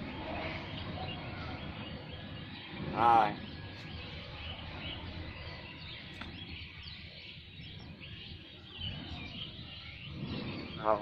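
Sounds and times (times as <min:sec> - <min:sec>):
faint bird chirps: 0:00.0 - 0:11.0
outdoor background noise: 0:00.0 - 0:11.0.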